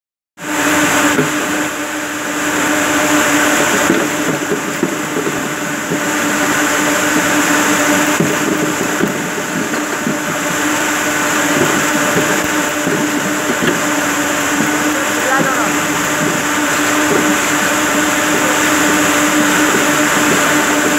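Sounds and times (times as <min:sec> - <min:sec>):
constant machine hum: 0:00.4 - 0:20.9
spinning machines din: 0:00.4 - 0:20.9.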